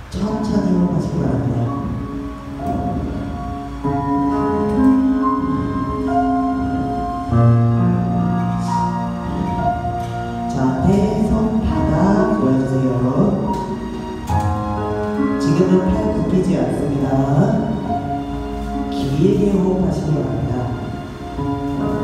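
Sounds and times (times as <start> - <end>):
music with singing: 0.0 - 22.0.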